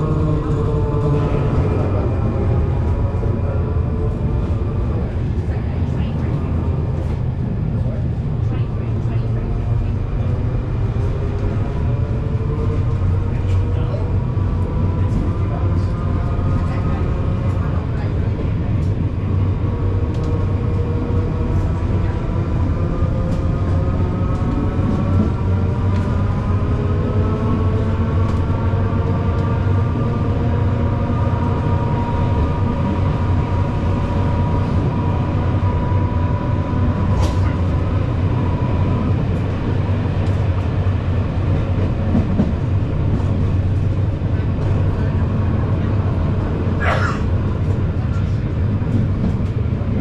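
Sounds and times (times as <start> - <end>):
tram rumbling: 0.0 - 50.0.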